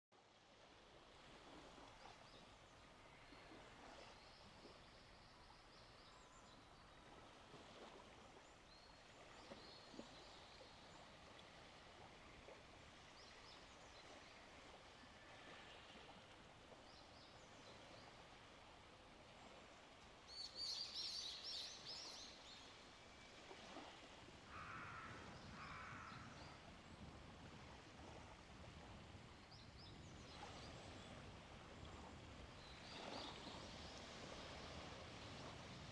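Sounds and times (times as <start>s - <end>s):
soft surf washing: 0.2s - 35.9s.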